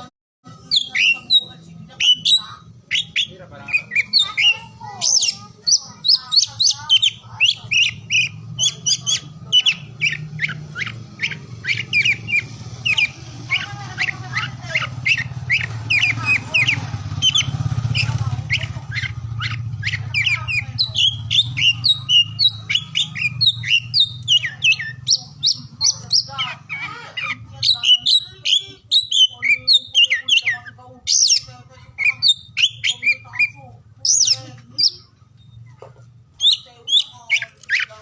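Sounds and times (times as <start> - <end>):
songbird singing fast notes: 0.0 - 38.0.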